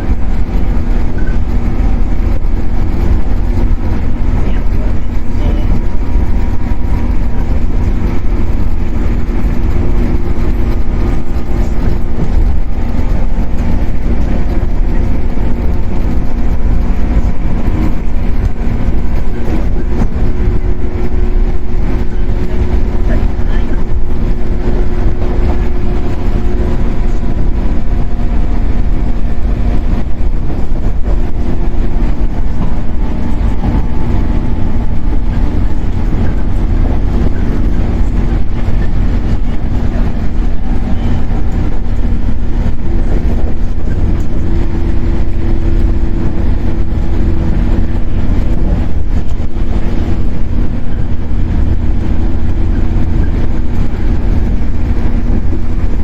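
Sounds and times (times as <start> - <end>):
traction motor hum: 0.0 - 56.0
train wheels rumbling: 0.0 - 56.0.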